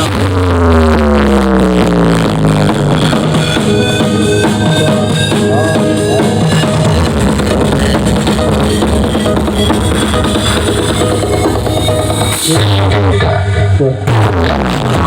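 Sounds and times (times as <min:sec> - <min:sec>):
loud dance music: 0:00.0 - 0:15.0.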